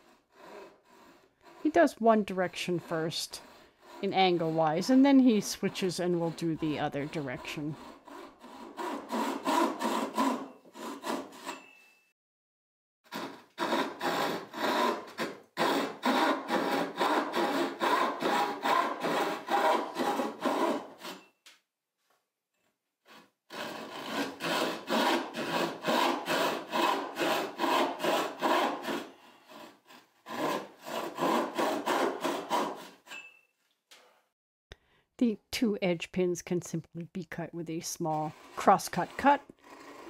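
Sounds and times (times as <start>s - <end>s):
hand saw cutting wood: 0.0s - 11.7s, 13.1s - 21.3s, 23.0s - 33.3s, 38.0s - 40.0s.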